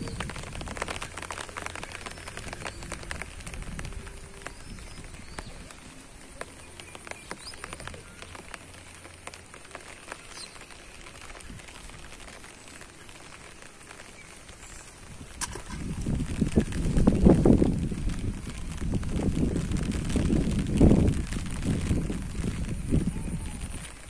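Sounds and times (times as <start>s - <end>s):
small clicks and ticks: 0.0s - 24.0s.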